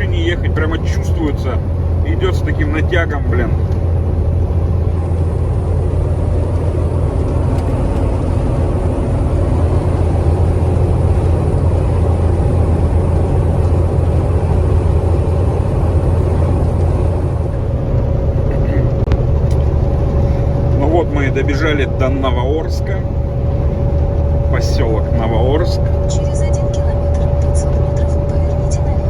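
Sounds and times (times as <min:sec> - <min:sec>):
diesel truck engine drone: 0:00.0 - 0:29.0
road and wind noise: 0:00.0 - 0:29.0.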